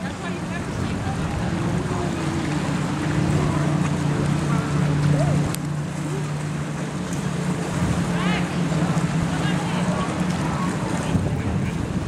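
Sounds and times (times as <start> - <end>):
boat engine humming: 0.0 - 12.0
waves: 0.0 - 12.0
wind: 0.0 - 12.0.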